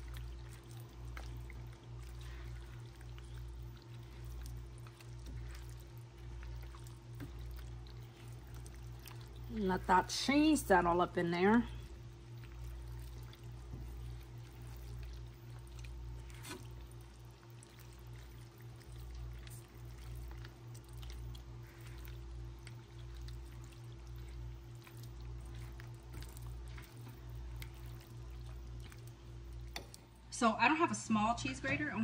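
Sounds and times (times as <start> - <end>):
sauce bubbling in a skillet: 0.0 - 30.2.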